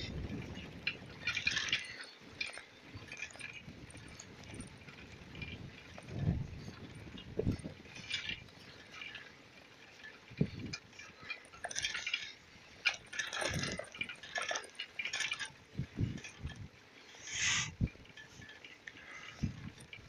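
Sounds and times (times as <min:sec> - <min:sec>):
bicycle rattling on brick paving: 0:00.0 - 0:20.0.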